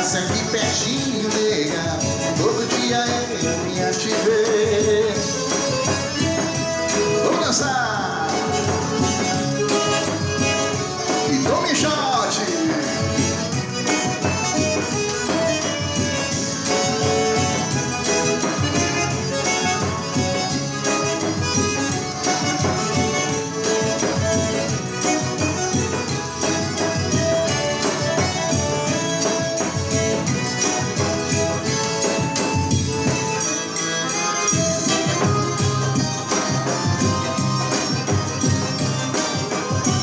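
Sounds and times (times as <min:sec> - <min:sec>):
instrumental dance band music: 0:00.0 - 0:40.0
jingling percussion: 0:00.0 - 0:40.0.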